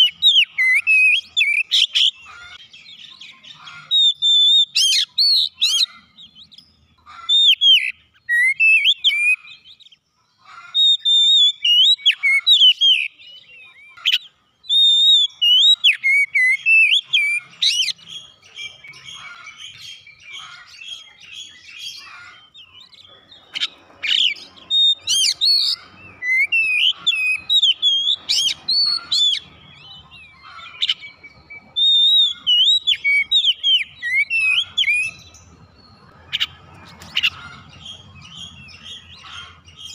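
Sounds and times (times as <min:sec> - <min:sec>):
bird singing whistled notes: 0:00.0 - 0:10.0, 0:10.8 - 0:39.9.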